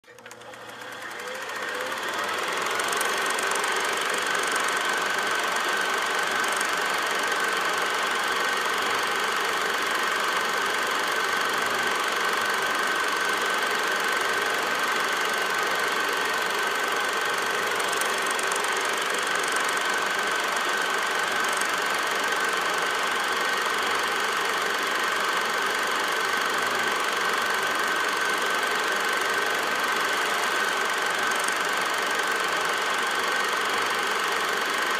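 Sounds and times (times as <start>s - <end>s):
film projector whirring: 0.0s - 34.9s.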